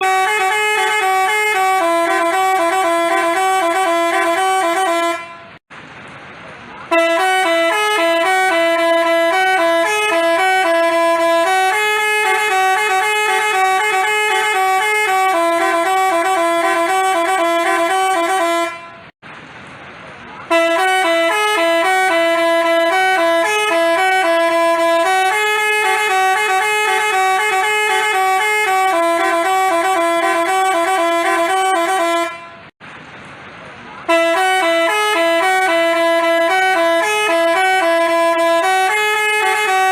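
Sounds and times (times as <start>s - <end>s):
multi-tone bus horn tune: 0.0s - 5.6s, 6.9s - 19.2s, 20.4s - 32.8s, 34.0s - 39.9s.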